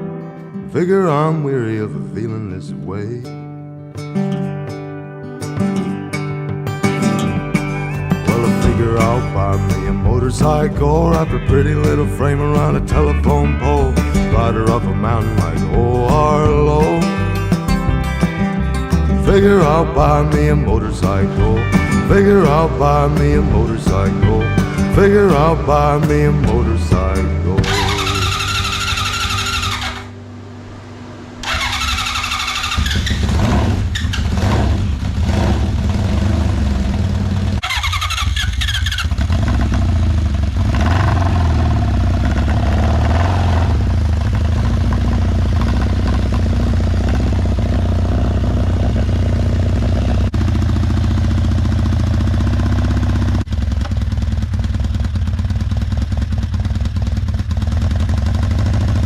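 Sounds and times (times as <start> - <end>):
motorcycle engine revving: 7.3 - 59.0.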